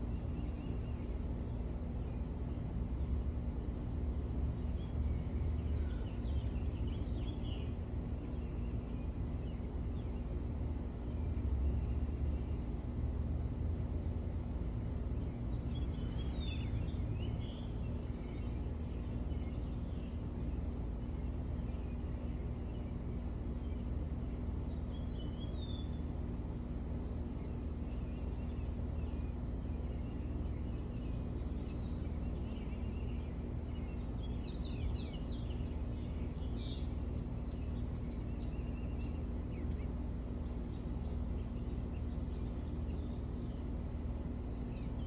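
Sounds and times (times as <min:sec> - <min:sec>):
low background hum: 0:00.0 - 0:45.0
songbirds chirping and trilling: 0:00.0 - 0:45.0.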